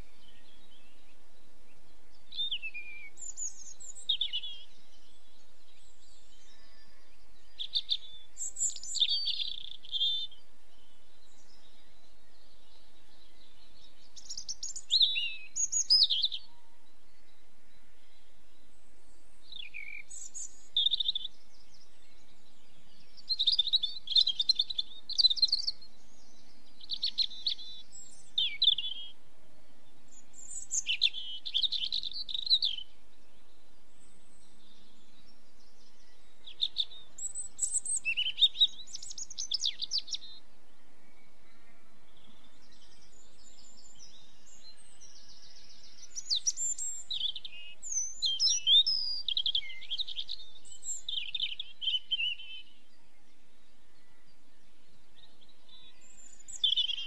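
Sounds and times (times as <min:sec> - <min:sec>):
songbird twittering: 0:00.0 - 0:29.2, 0:30.1 - 0:57.0.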